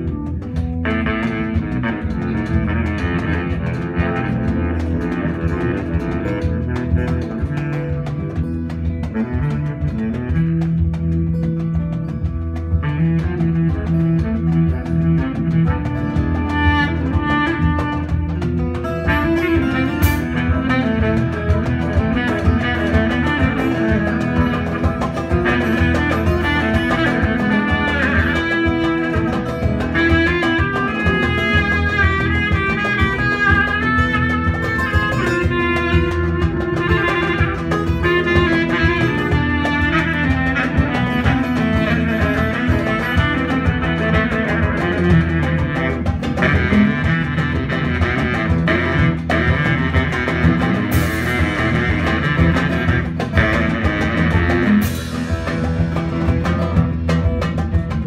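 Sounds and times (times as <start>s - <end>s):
drum strokes: 0.0s - 58.0s
electric bass: 0.0s - 58.0s
live band music: 0.0s - 58.0s
plucked oud: 0.0s - 58.0s.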